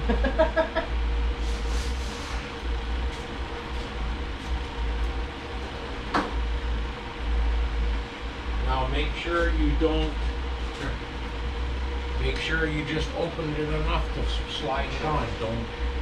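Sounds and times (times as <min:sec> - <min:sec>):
low hum of shop: 0:00.0 - 0:16.0.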